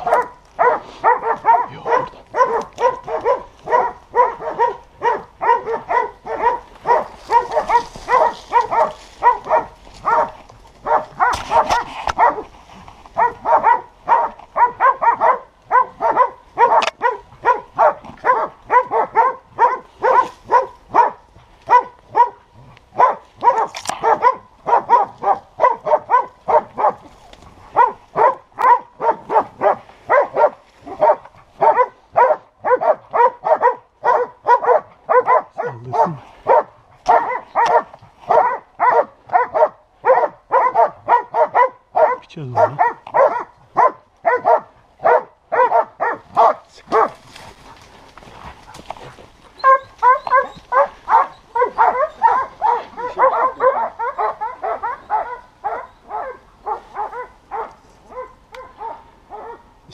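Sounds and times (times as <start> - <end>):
dogs barking: 0.0 - 59.9.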